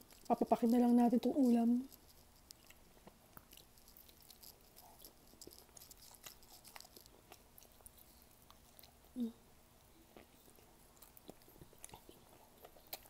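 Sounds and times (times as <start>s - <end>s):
faint chewing with mouth clicks: 0.0s - 13.0s.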